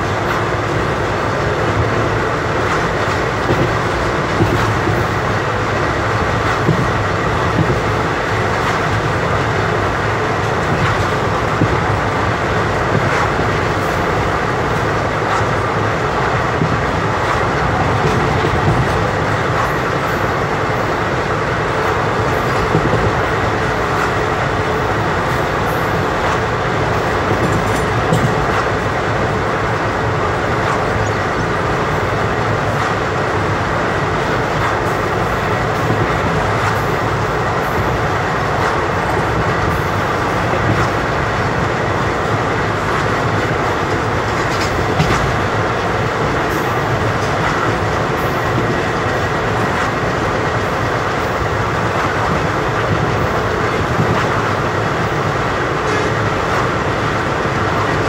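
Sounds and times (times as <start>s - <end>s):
train wheel clicks: 0.0s - 58.0s
train wheels rumbling on rails: 0.0s - 58.0s.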